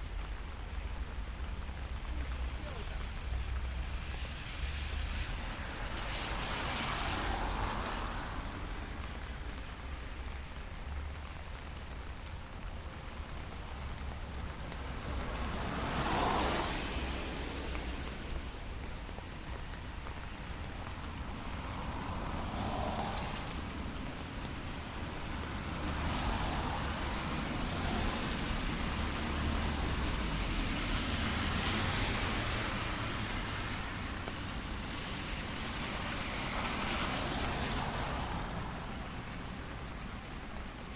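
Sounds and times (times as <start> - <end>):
car tyres hissing on wet road: 0.0 - 40.9
light rain: 0.0 - 40.9.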